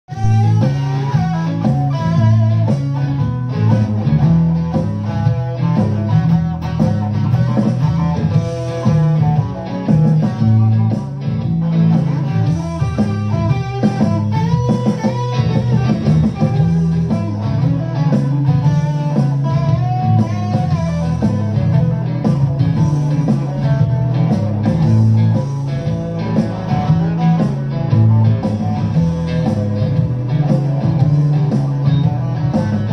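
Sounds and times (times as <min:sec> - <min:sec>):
electric guitar riffs: 0:00.0 - 0:32.9.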